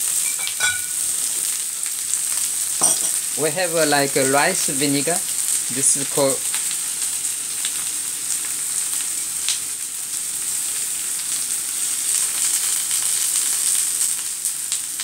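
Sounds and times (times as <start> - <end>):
potatoes and onion sizzling in oil: 0.0 - 15.0.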